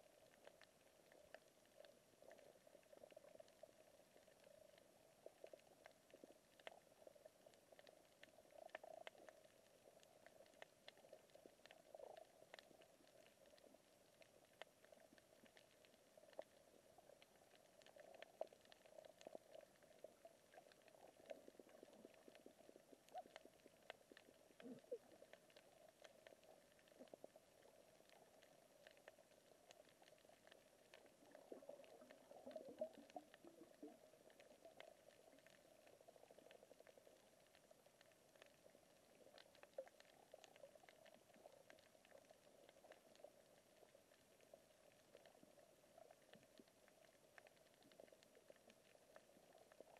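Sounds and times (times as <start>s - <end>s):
dull underwater hum: 0.0s - 49.9s
fine clicks and crackles: 0.0s - 49.9s.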